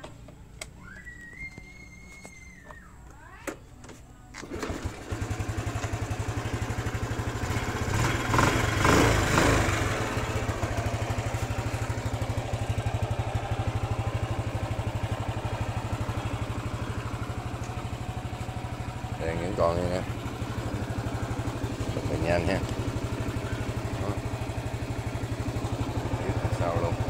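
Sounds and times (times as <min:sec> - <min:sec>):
motorcycle engine kick-started: 0:03.4 - 0:27.0
engine idling and revving: 0:04.4 - 0:27.0.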